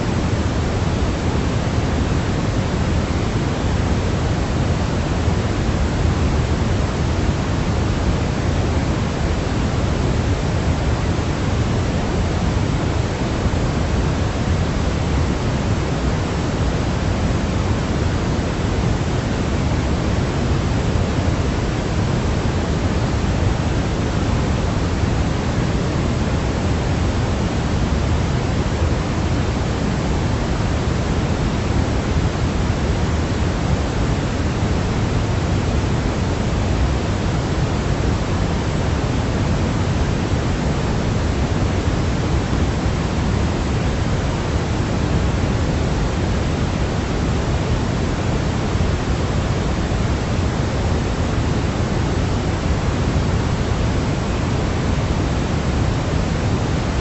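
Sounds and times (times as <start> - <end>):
constant synthetic hiss: 0.0 - 57.0.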